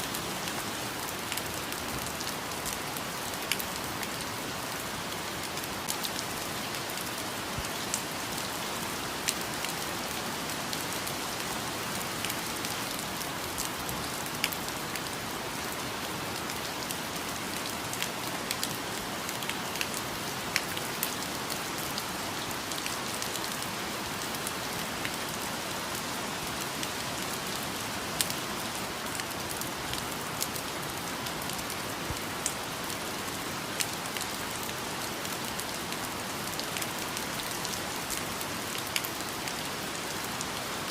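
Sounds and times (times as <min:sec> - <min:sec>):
rain falling on foliage: 0:00.0 - 0:40.9.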